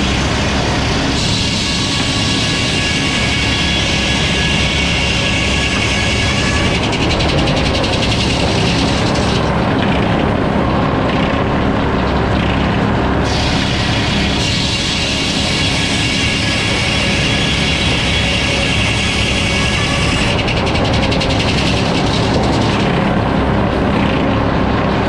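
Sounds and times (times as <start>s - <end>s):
sawmill sawing a log: 0.0s - 25.0s.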